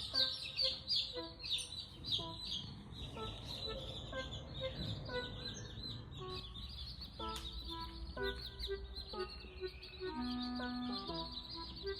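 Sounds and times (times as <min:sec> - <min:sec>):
chicks peeping: 0:00.0 - 0:11.9.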